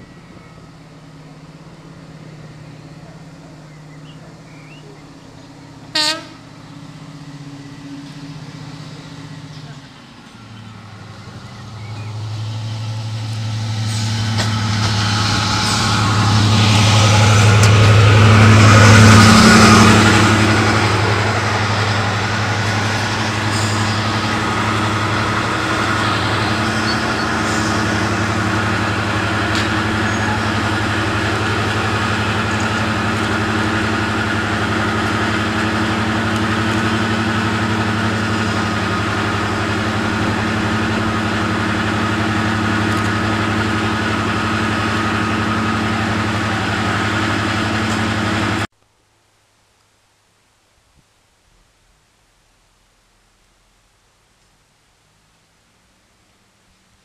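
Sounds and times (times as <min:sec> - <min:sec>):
diesel locomotive engine: 0:00.0 - 0:48.7.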